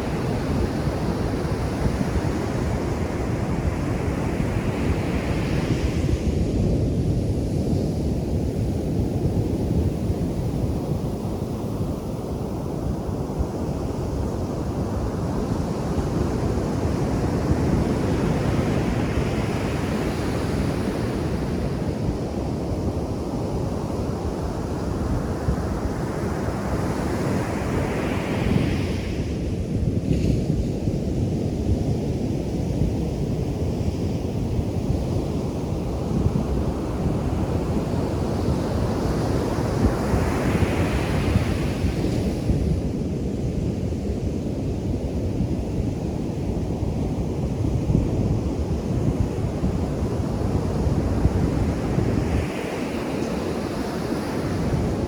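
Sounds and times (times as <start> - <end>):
ocean surf on beach: 0.0 - 55.0.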